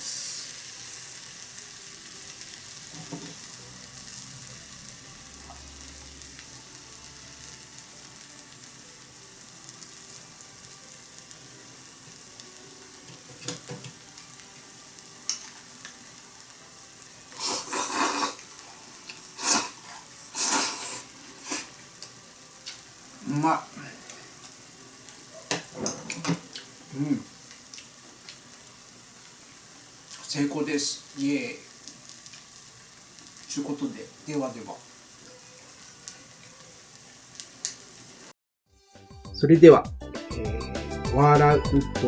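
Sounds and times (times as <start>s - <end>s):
hotpot sizzling: 0.0s - 42.0s.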